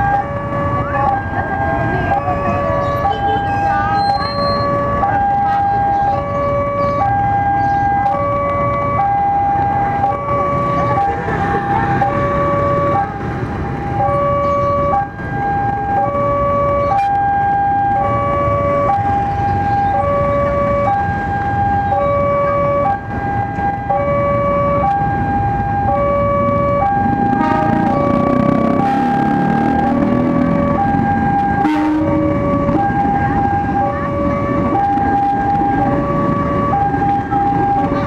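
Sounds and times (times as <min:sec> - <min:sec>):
level crossing two-tone alarm: 0:00.0 - 0:13.3, 0:13.9 - 0:38.0.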